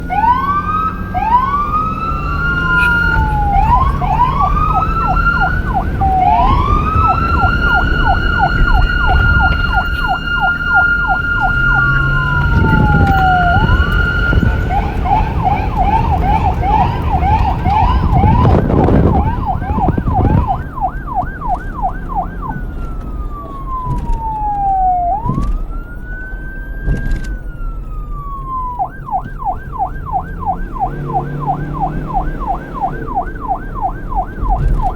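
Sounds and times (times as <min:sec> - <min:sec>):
low vehicle rumble: 0:00.0 - 0:34.9
police siren wailing and yelping: 0:00.0 - 0:34.9.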